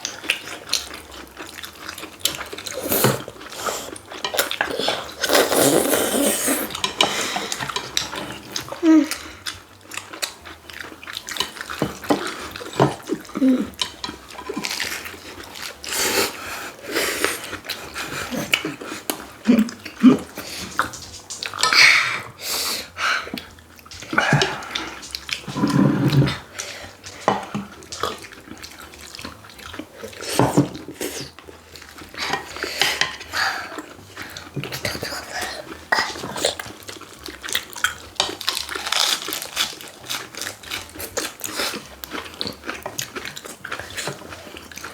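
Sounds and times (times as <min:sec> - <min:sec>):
utensils clicking on dishes: 0:00.0 - 0:22.4, 0:23.3 - 0:44.9
wet chewing and slurping: 0:00.0 - 0:44.9.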